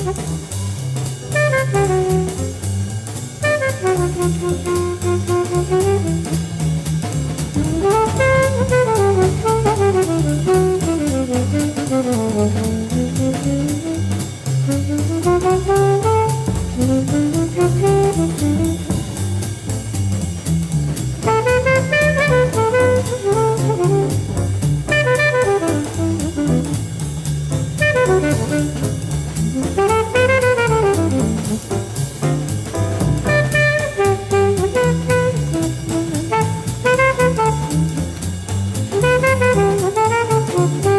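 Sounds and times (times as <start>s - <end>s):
alto saxophone solo: 0.0s - 2.8s, 3.4s - 19.8s, 21.2s - 40.9s
double bass: 0.0s - 40.9s
drum kit: 0.0s - 40.9s.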